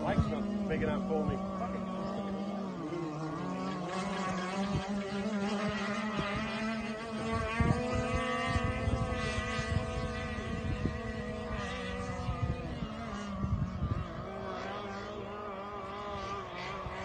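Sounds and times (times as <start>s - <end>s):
distant engine drone: 0.0s - 17.0s
wind on microphone: 0.0s - 17.0s.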